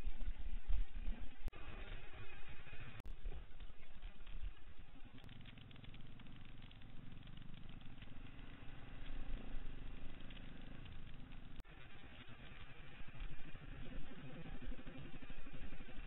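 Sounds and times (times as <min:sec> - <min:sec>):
bike rattling on dirt track: 0:00.0 - 0:16.0
motorcycle engine running: 0:00.0 - 0:16.0.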